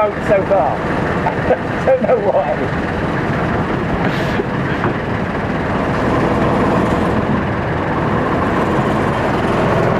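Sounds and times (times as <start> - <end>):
boat engine running: 0.0 - 9.9.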